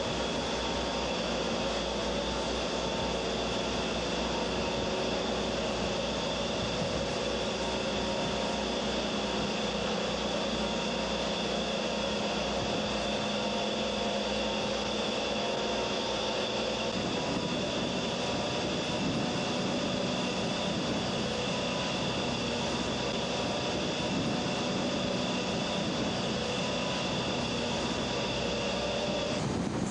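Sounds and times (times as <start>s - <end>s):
loud engine drone: 0.0s - 29.9s.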